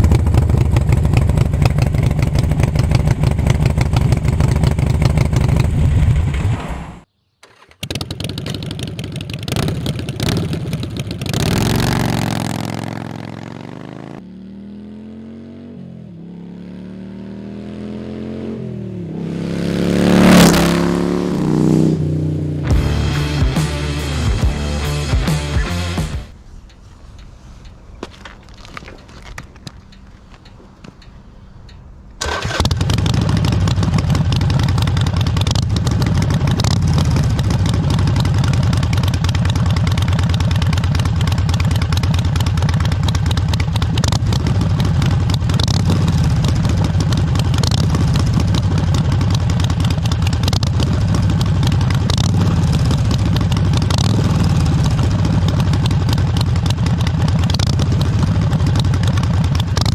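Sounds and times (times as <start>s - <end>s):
motorcycle engine starting and idling: 0.0s - 14.3s, 18.9s - 59.9s.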